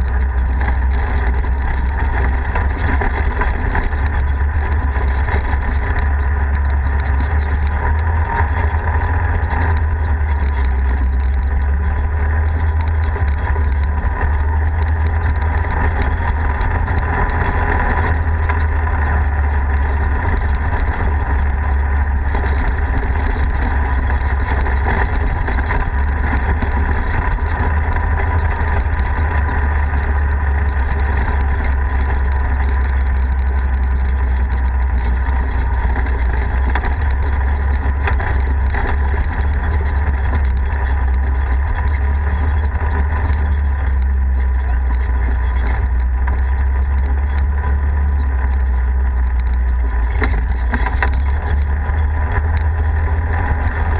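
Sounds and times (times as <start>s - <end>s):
vehicle engine droning: 0.0s - 53.9s.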